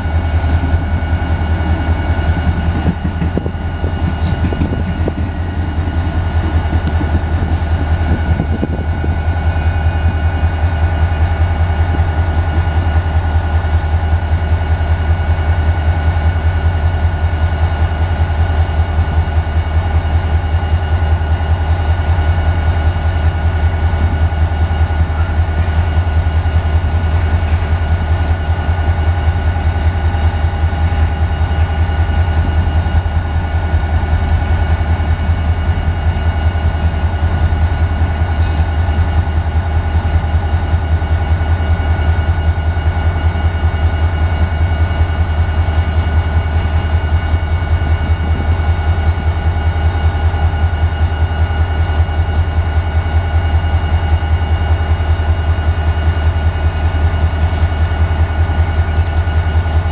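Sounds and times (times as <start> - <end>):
diesel locomotive idling: 0.0 - 59.9
freight train cars rolling: 0.0 - 59.9.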